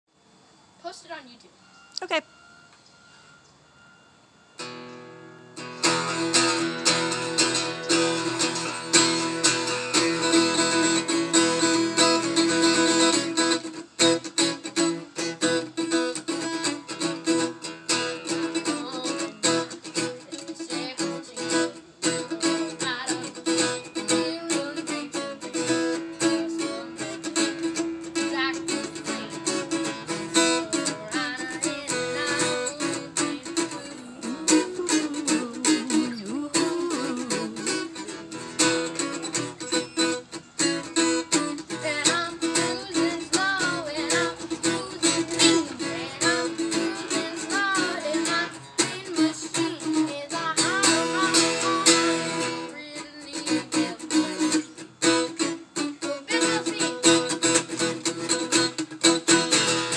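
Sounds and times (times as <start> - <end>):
acoustic guitar strumming: 4.1 - 59.9
person singing: 5.9 - 39.8, 40.7 - 59.9.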